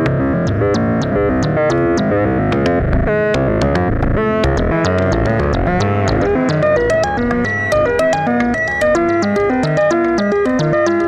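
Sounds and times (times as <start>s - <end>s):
sharp clicks: 0.4s - 11.0s.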